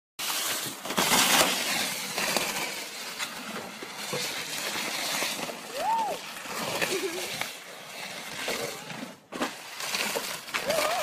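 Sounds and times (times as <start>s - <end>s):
plastic sled scraping on ice: 0.2s - 11.0s.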